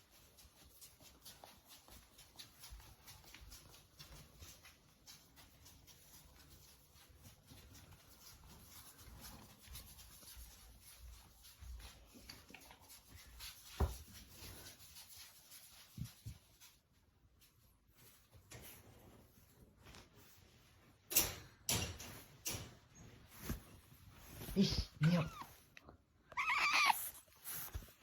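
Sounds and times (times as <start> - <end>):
faint rustling and scratching: 0.0 - 28.0.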